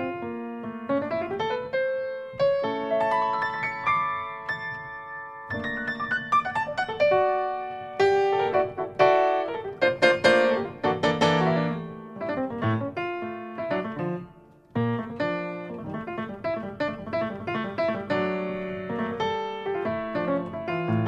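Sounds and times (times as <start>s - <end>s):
jazz piano music: 0.0s - 21.0s.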